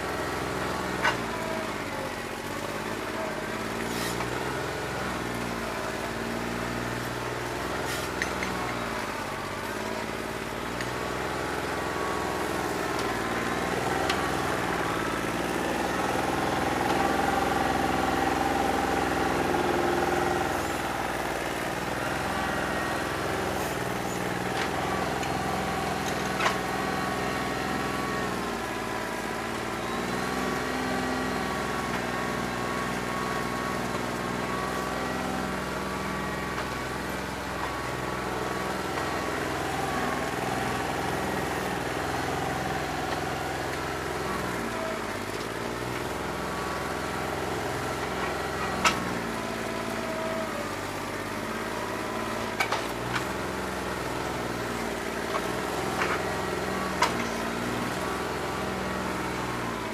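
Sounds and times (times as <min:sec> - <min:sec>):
diesel tractor engine misfiring: 0:00.0 - 0:59.9.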